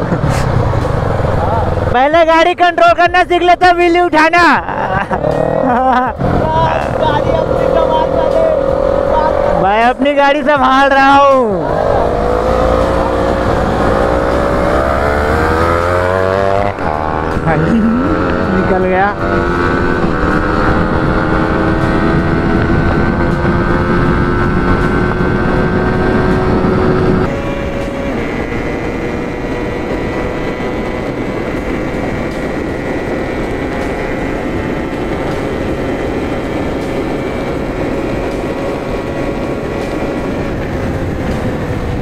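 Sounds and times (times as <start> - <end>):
motorcycle engine cruising: 0.0 - 3.1, 4.6 - 42.0
road and wind noise: 0.0 - 42.0.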